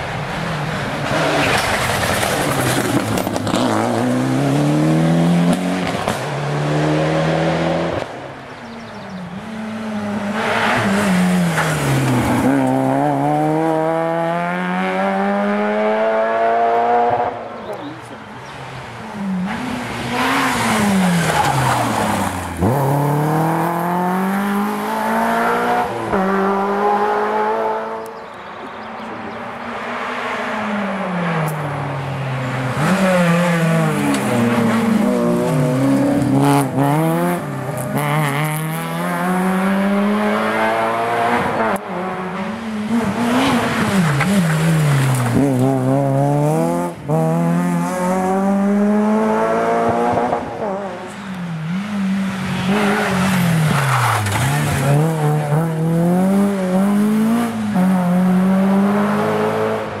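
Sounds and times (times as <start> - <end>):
rally car engine revving: 0.7 - 8.2, 9.4 - 17.4, 19.2 - 28.1, 32.7 - 60.0.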